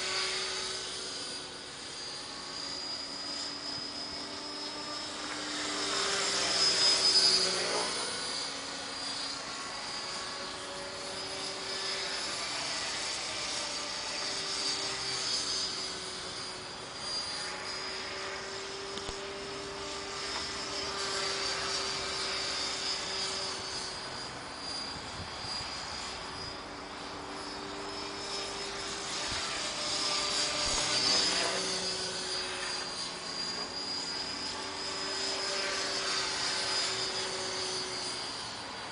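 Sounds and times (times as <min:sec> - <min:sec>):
model helicopter motor whine: 0:00.0 - 0:38.9
rotor blades humming: 0:00.0 - 0:38.9.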